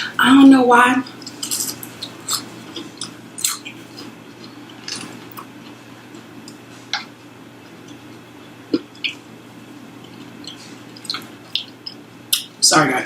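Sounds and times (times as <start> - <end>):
chewing crunchy fried chicken: 1.1 - 12.5.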